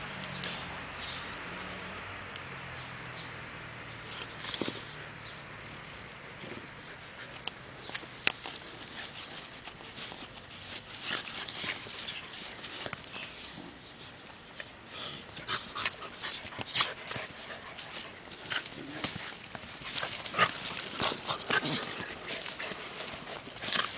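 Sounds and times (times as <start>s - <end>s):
puppies scuffling in dirt: 3.8s - 23.9s.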